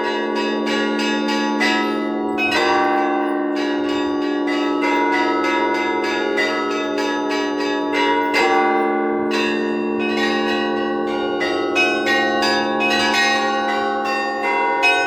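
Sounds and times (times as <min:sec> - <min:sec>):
large bells humming: 0:00.0 - 0:15.0.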